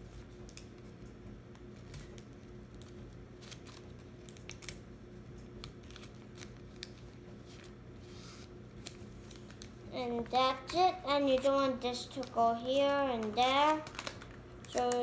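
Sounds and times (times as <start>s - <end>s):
paper crinkling and rustling: 1.7s - 15.0s.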